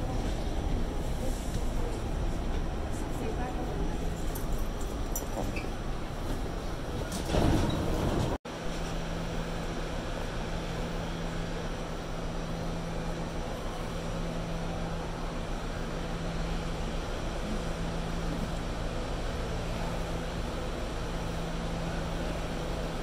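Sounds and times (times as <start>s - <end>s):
rush of train noise: 0.0s - 23.0s
subway car equipment humming: 0.0s - 23.0s.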